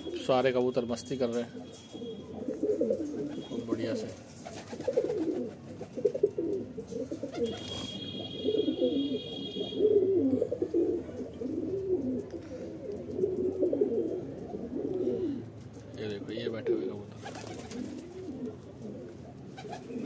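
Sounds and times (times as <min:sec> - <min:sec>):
pigeons cooing: 0:00.0 - 0:00.5, 0:01.4 - 0:20.0.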